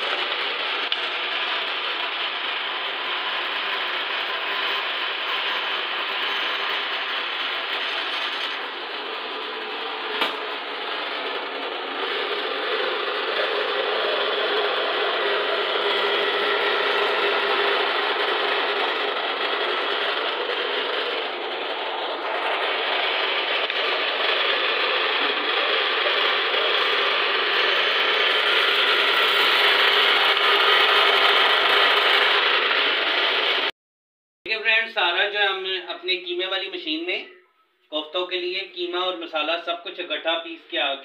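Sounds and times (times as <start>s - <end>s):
electric meat grinder running: 0.0s - 33.7s.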